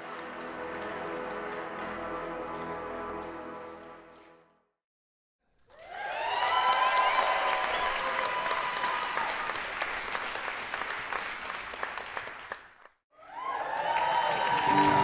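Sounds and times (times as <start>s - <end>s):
audience applauding: 0.0s - 4.4s, 5.7s - 15.0s.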